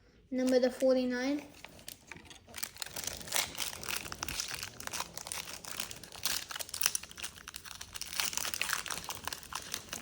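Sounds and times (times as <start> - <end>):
cards rustling: 0.4 - 10.0
plastic wrapper crinkling: 0.4 - 10.0.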